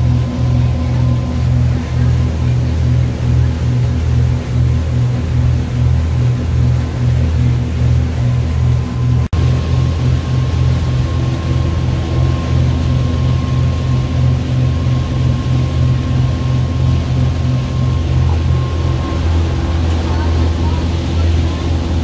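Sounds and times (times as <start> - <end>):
boat engines droning: 0.0 - 22.0.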